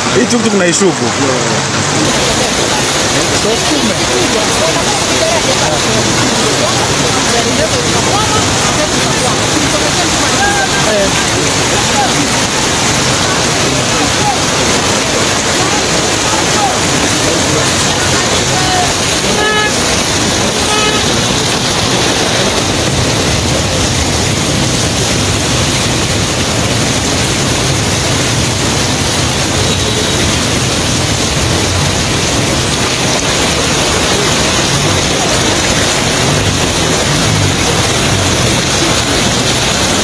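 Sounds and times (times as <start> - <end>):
floodwater rushing: 0.0 - 40.0
heavy rain: 0.0 - 40.0.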